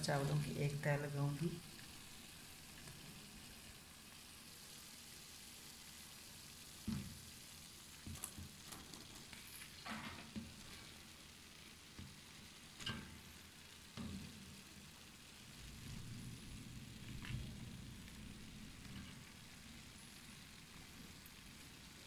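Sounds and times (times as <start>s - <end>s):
faint sizzle in cooking pot: 0.0s - 22.0s.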